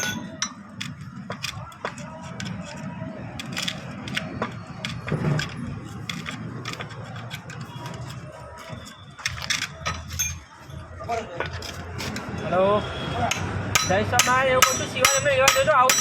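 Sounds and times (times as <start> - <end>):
hand tools clinking on metal: 0.0 - 12.4, 13.3 - 16.0.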